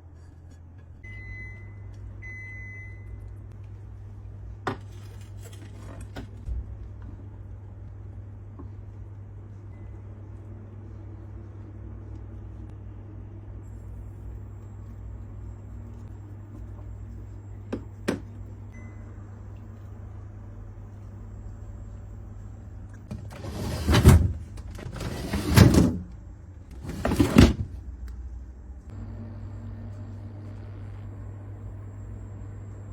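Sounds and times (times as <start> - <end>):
steady low hum: 6.4 - 32.9.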